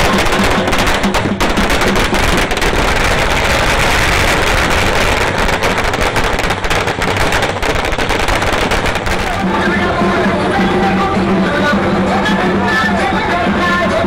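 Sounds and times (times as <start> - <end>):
firecrackers going off: 0.0 - 14.0.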